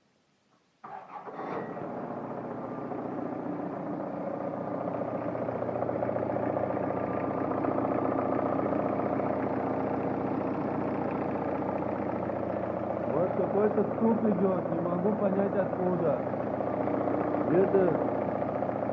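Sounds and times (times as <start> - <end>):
diesel engine idling with clatter: 0.9 - 18.9
engine knock: 2.2 - 18.9.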